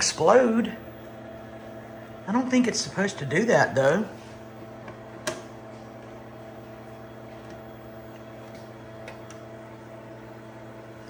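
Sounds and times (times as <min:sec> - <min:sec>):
computer humming tones: 0:00.0 - 0:11.0.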